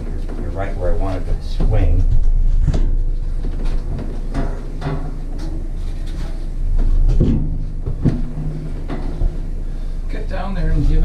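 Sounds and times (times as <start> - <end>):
bathtub knocking and scraping: 0.0 - 9.6
low rumble of tub moving: 0.0 - 11.0.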